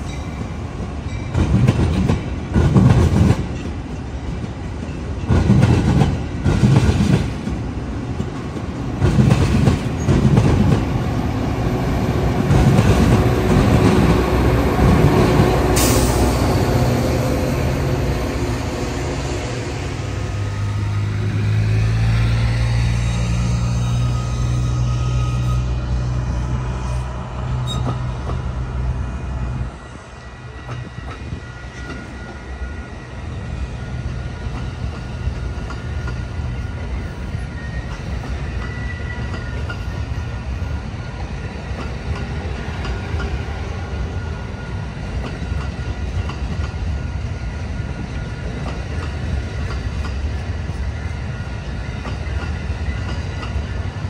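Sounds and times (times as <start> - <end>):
rail cars rumbling and rattling: 0.0 - 54.0.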